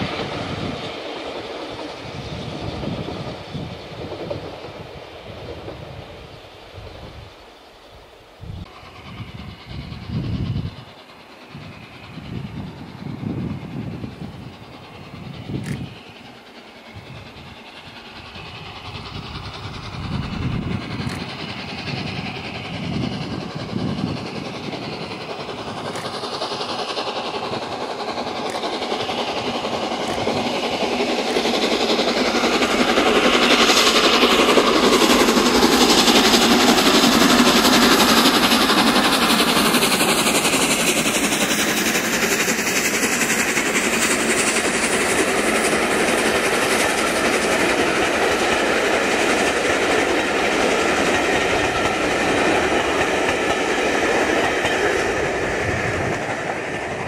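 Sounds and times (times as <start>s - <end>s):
steam locomotive exhaust beats: 0.0s - 57.0s
train wheels rumbling on track: 0.0s - 57.0s.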